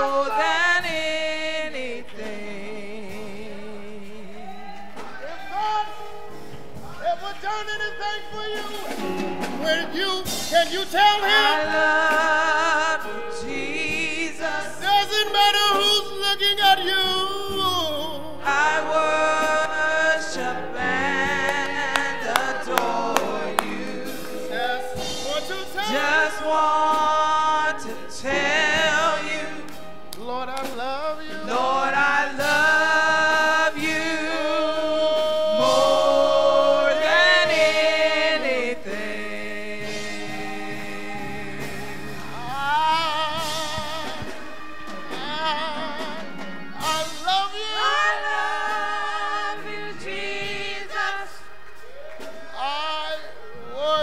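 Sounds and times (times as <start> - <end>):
gospel song sung by several voices: 0.0 - 54.0.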